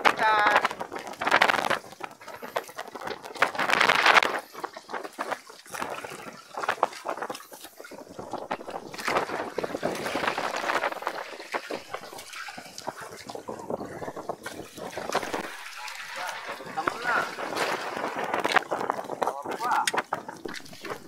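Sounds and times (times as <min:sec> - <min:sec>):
seawater splashing and dripping: 0:00.0 - 0:21.0.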